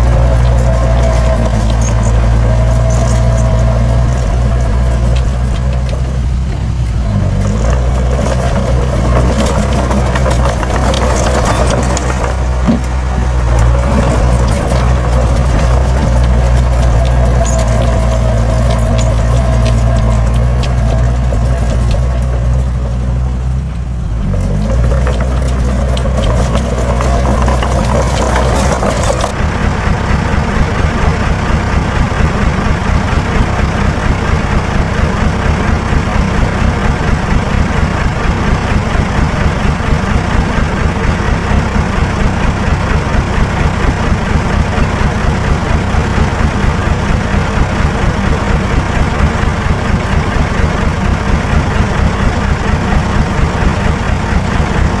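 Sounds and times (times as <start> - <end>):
bright clatter: 0.0 - 55.0
heavy diesel engine running: 0.0 - 55.0.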